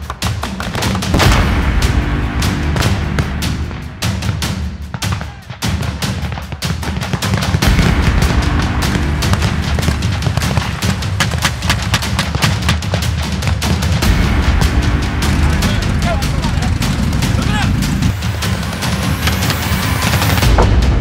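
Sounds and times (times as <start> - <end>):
background music with low pulse: 0.0 - 21.0
rapid gunfire: 0.4 - 20.6.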